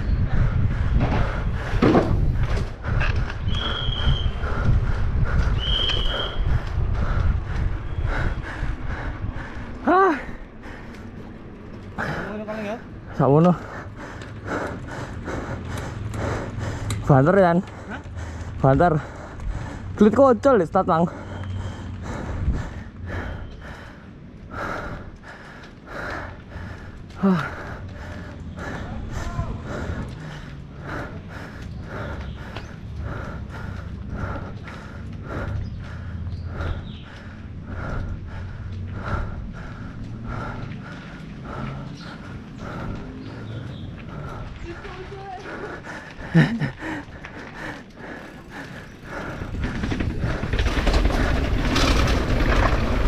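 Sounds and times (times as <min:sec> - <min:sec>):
person breathing: 0:00.0 - 0:20.1, 0:21.1 - 0:52.9
wind rumbling on microphone: 0:00.0 - 0:20.4, 0:21.1 - 0:53.0
bike rattling: 0:00.0 - 0:53.0
bike tyres rolling on concrete: 0:00.0 - 0:53.0.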